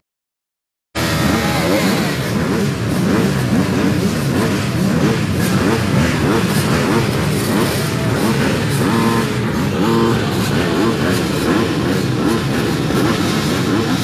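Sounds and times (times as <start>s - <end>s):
dirt bike engines revving: 1.0s - 14.0s.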